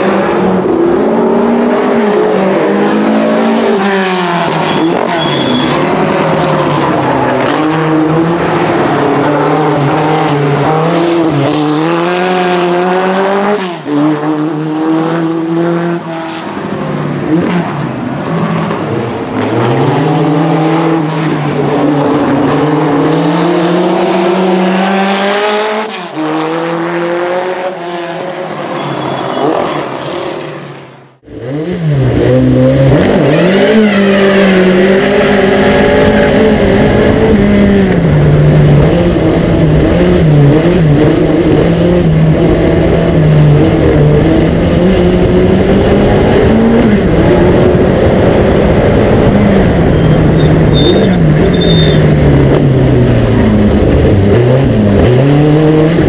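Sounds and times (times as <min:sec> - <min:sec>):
racing car engine revving: 0:00.0 - 0:28.7, 0:31.1 - 0:56.0.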